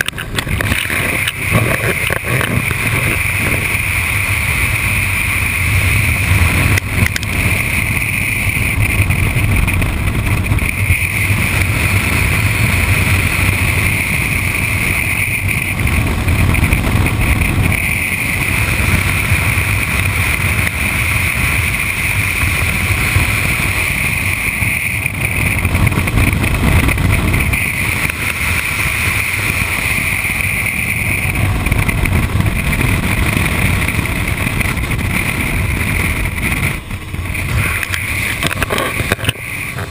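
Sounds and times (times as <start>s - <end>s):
motorcycle engine running: 0.0s - 39.9s
steady high whine: 0.0s - 39.9s
wind rushing over microphone: 0.0s - 39.9s.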